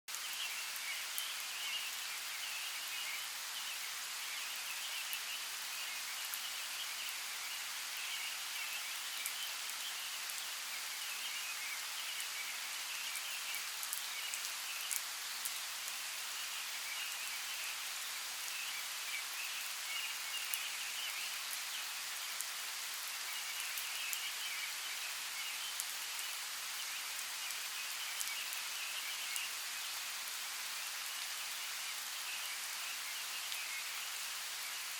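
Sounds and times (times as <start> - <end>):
light rain on leaves: 0.1 - 34.9.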